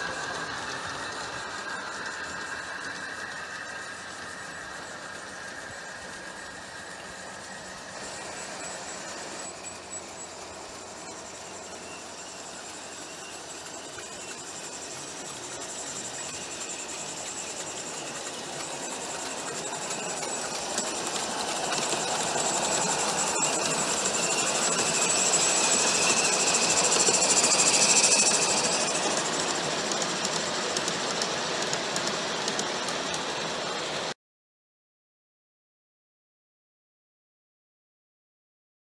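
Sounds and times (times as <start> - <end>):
steam hiss: 0.0 - 34.1
model train cars rolling: 0.0 - 34.2.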